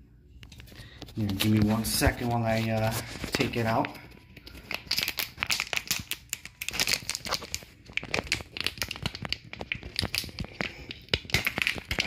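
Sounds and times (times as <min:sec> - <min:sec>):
packaging crinkling and tearing: 0:00.4 - 0:12.0.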